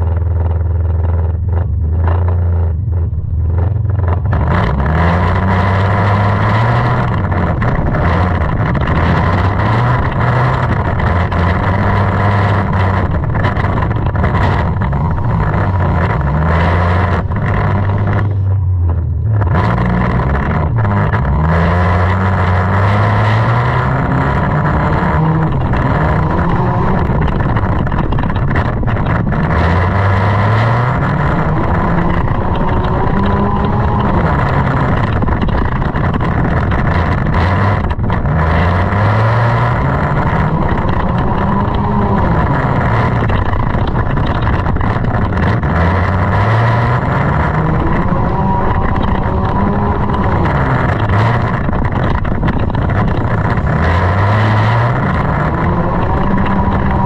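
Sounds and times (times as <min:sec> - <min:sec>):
race car engine revving: 0:00.0 - 0:57.0
steady rushing noise: 0:00.0 - 0:57.0.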